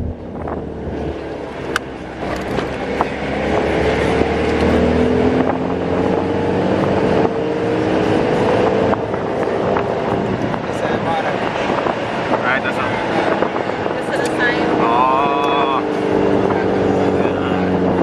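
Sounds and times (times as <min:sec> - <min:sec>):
bus engine drone: 0:00.0 - 0:18.0
road rumble: 0:00.0 - 0:18.0.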